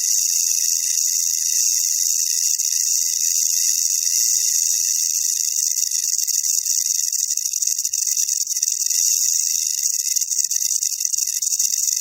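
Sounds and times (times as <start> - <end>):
rattlesnake rattling: 0.0 - 12.0.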